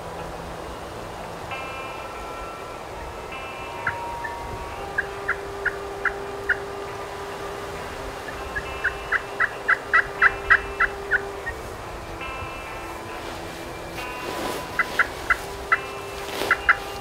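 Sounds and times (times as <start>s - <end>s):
wild turkey yelping: 1.5s - 17.0s.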